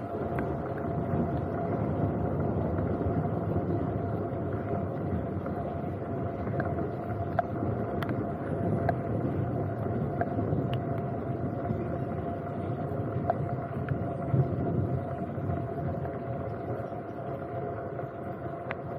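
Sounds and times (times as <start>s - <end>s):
faint steady hum: 0.0s - 18.9s
raindrops ticking on camera: 0.0s - 18.9s
steady rain: 0.0s - 18.9s.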